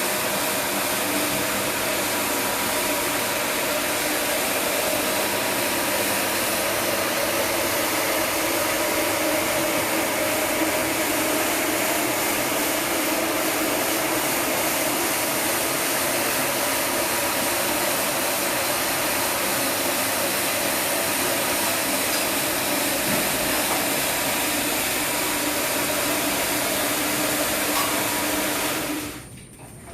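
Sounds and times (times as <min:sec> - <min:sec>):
floor polisher scrubbing carpet: 0:00.0 - 0:29.2.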